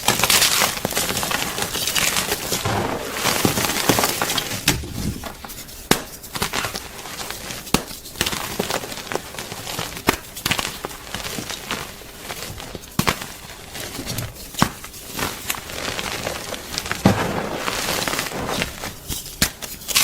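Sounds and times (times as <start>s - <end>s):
chalk crunching and crackling: 0.2s - 20.0s.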